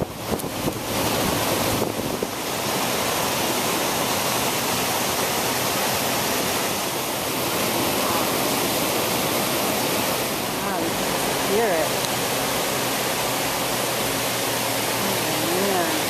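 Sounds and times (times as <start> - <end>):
stream rushing over rapids: 0.0 - 16.0.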